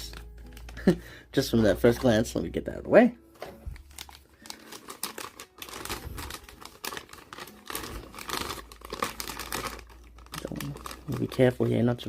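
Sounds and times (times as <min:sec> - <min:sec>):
plastic packaging crinkling: 0:00.0 - 0:02.5, 0:03.4 - 0:12.0.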